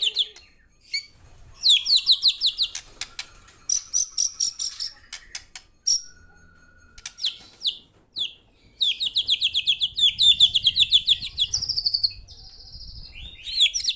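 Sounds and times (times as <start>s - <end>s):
songbird singing: 0.0s - 13.9s.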